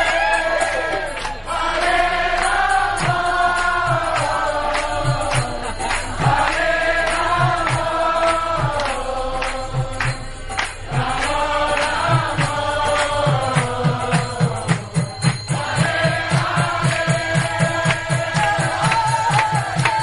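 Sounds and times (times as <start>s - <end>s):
group chanting in chorus: 0.0s - 20.0s.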